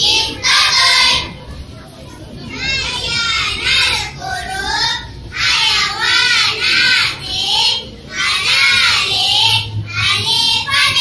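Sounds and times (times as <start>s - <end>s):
girls chanting in unison: 0.0s - 1.4s, 2.5s - 11.0s.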